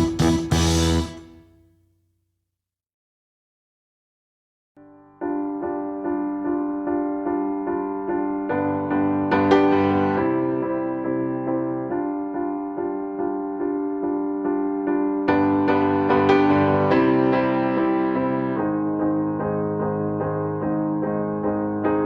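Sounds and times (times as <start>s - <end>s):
low piano chords: 0.0s - 1.3s, 4.8s - 22.0s
piano repeated note pattern: 0.0s - 1.5s, 4.8s - 22.0s.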